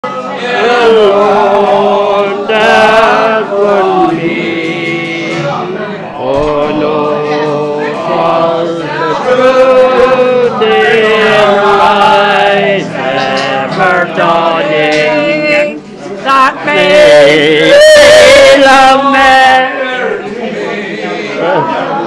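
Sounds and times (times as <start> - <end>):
group of voices singing: 0.0 - 22.0.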